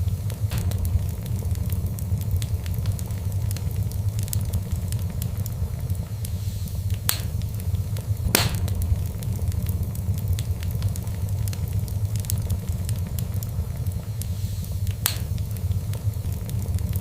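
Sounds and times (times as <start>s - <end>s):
fire crackling: 0.0s - 17.0s
fire popping: 0.0s - 17.0s
low steady rumble: 0.0s - 17.0s.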